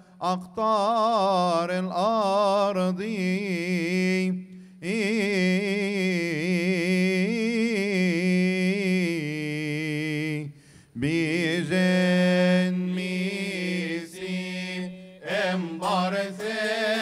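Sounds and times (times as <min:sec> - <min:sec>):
man chanting a hymn: 0:00.0 - 0:17.0.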